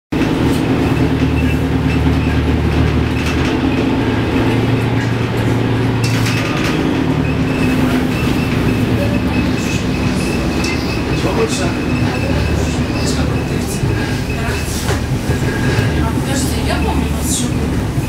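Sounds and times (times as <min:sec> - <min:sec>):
bus engine running: 0:00.1 - 0:18.0
moving bus noise: 0:00.1 - 0:18.0.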